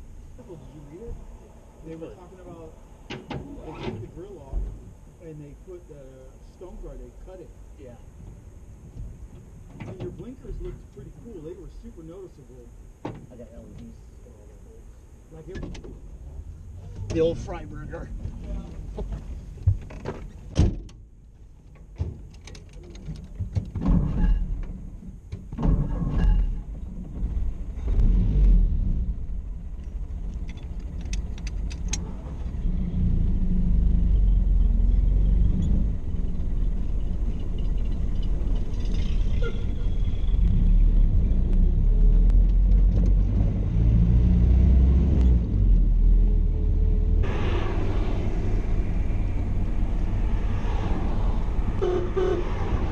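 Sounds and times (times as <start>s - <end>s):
car engine rumbling: 0.0s - 52.9s.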